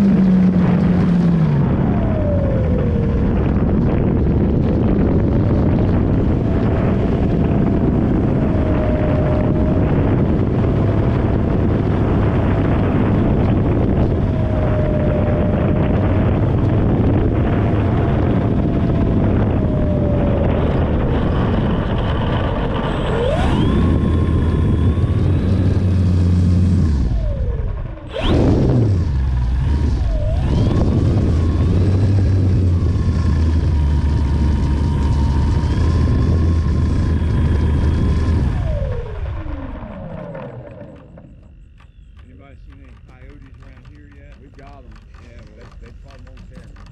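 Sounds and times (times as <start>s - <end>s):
heavy wind rush: 0.0s - 46.9s
model airplane engine and propeller: 0.0s - 46.9s.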